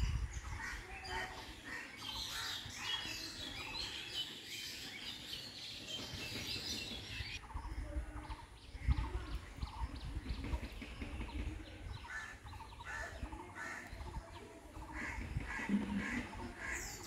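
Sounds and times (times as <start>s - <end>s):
small birds chirping and twittering: 0.0s - 17.0s.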